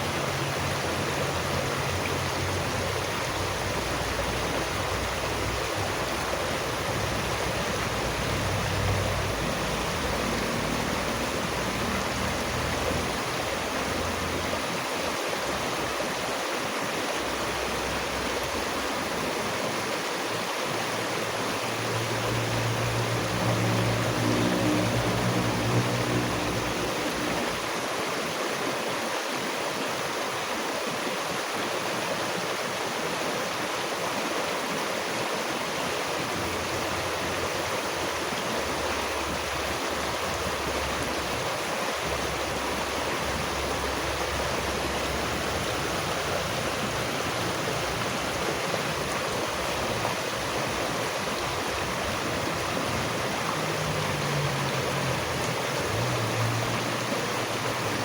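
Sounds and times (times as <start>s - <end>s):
stream of water rushing: 0.0s - 58.0s.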